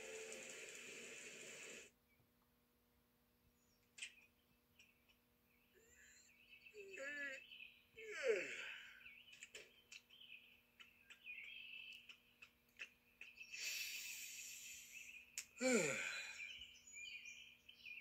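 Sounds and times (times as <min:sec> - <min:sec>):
bird chirping: 0:03.6 - 0:18.0.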